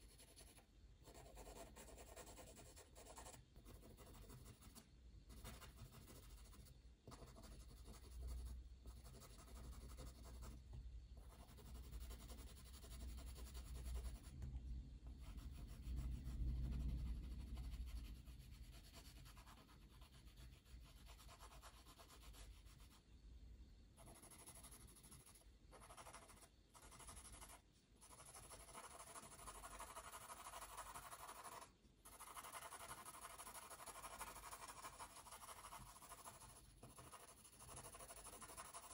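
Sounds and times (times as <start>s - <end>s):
pencil scratching on paper: 0.0s - 10.6s, 11.2s - 14.4s, 15.2s - 23.0s, 24.0s - 38.9s.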